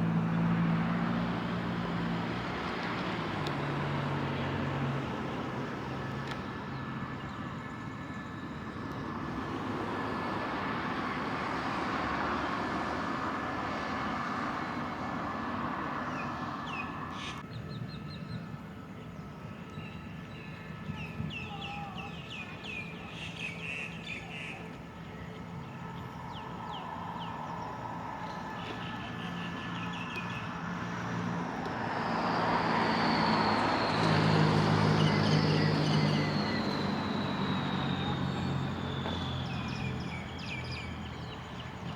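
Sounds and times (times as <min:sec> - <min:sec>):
diesel locomotive engine hum: 0:00.0 - 0:41.9.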